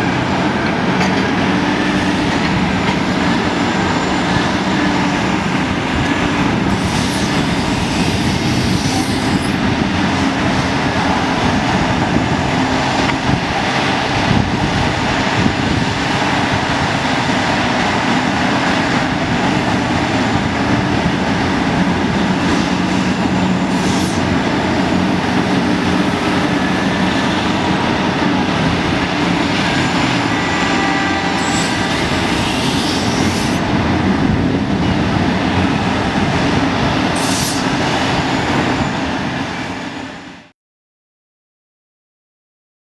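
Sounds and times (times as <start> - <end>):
excavator diesel engine and hydraulics: 0.0 - 40.5.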